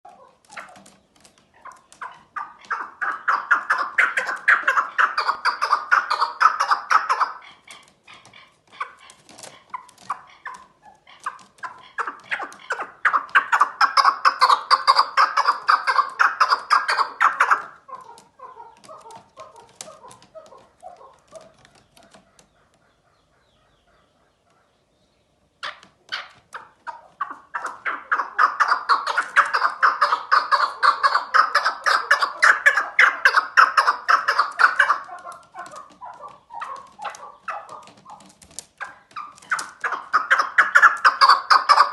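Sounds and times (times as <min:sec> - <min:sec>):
partridge chuck calls: 0:00.1 - 0:41.9.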